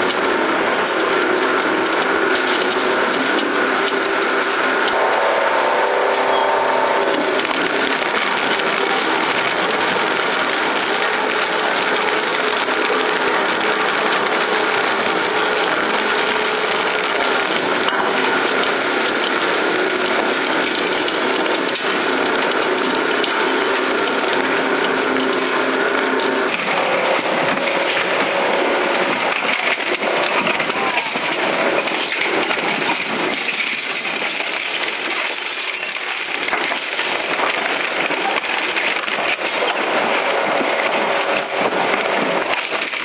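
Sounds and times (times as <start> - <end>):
shredder grinding mattress: 0.0 - 43.0.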